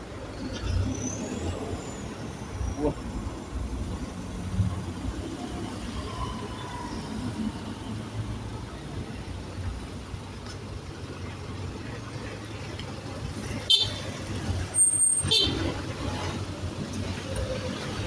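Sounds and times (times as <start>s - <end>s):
bus engines rumbling: 0.0s - 18.0s.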